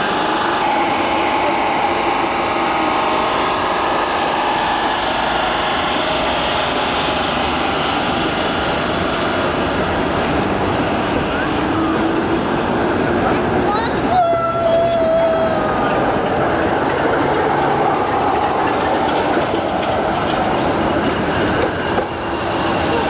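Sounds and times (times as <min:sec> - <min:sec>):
train drone at platform: 0:00.0 - 0:23.0.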